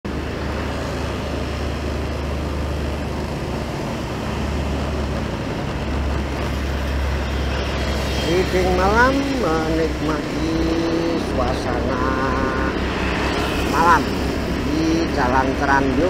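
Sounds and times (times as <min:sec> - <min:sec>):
road noise: 0:00.0 - 0:16.0
vehicle engine rumble: 0:00.0 - 0:16.0.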